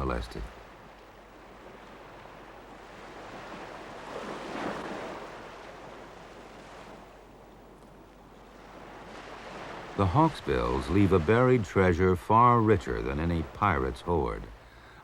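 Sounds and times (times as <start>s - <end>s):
sea surf on a beach: 0.0s - 15.0s.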